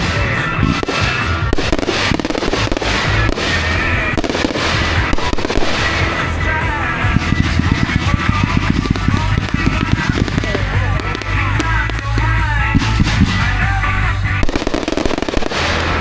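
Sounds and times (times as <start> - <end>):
fireworks banging and crackling: 0.0 - 16.0
music playing: 0.0 - 16.0.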